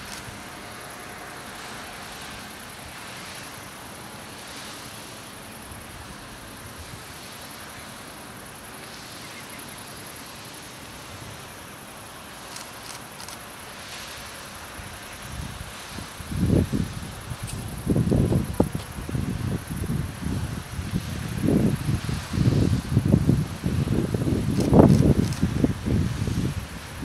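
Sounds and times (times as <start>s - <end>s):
pulsing insect chirring: 0.0s - 26.6s
wind through leaves: 0.0s - 27.0s.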